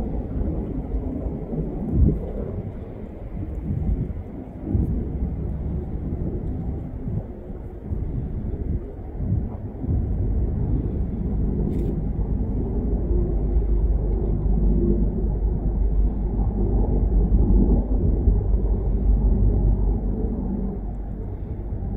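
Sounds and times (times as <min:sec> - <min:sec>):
helicopter flying by: 0:00.0 - 0:21.9.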